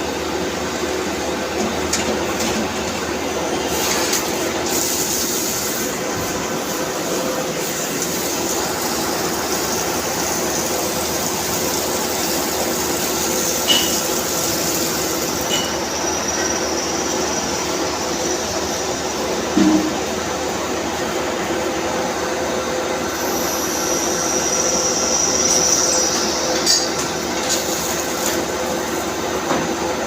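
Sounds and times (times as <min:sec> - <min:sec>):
machine whirring and humming: 0:00.0 - 0:30.0.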